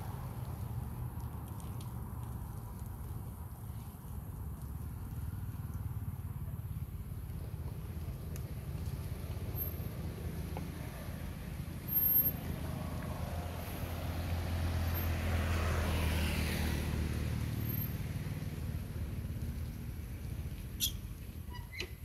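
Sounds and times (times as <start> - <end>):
motor vehicle passing rumble: 0.0 - 22.0.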